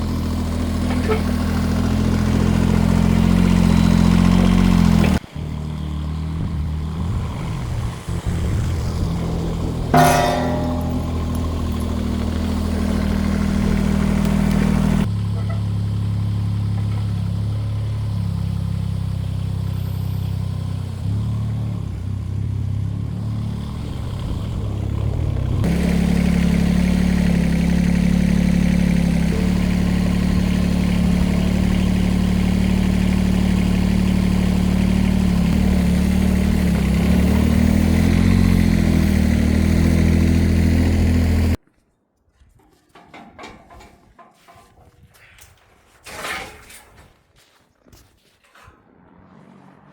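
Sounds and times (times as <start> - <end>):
diesel tractor engine running: 0.0 - 41.6.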